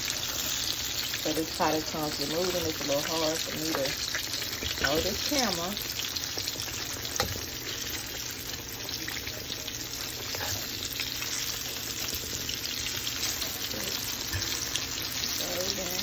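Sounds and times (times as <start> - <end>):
frying sizzle with crackling: 0.0 - 16.0.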